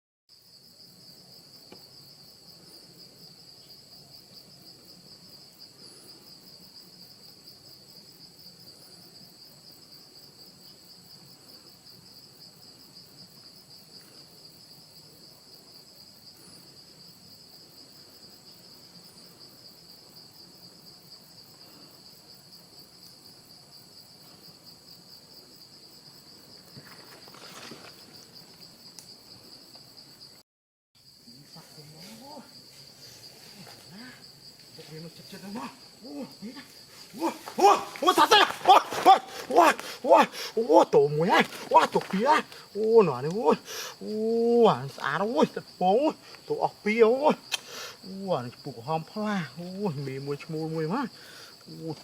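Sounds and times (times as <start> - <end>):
insects buzzing: 0.3 - 30.4, 31.0 - 52.0.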